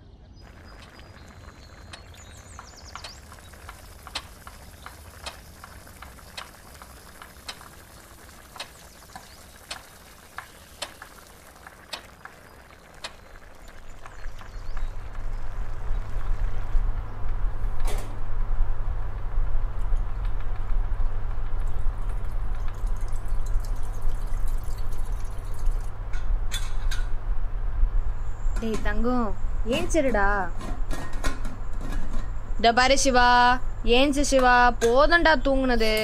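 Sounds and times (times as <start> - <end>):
deep steady rumble: 0.4 - 35.8.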